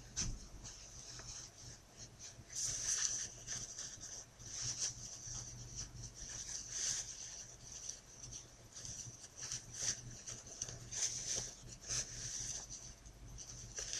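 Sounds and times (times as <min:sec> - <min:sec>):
fabric rustling and rubbing: 0:00.0 - 0:13.9.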